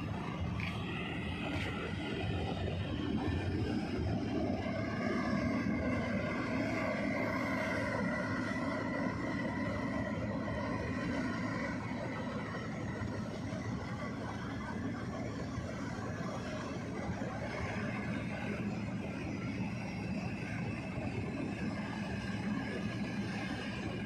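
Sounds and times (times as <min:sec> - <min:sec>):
ferry engines low rumble: 0:00.0 - 0:24.0
steady high whine: 0:00.0 - 0:24.0.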